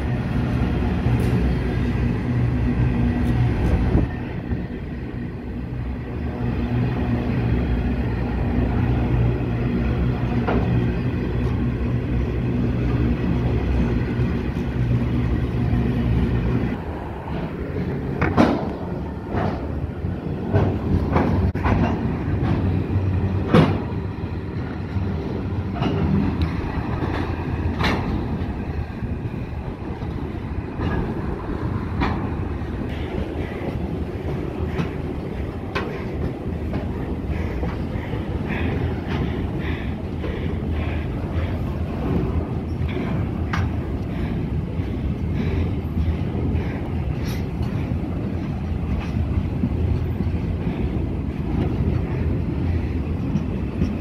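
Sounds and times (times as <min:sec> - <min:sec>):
steady hum: 0:00.0 - 0:54.0
train wheels rumbling: 0:00.0 - 0:54.0
wheels clacking over rail joints: 0:00.0 - 0:54.0.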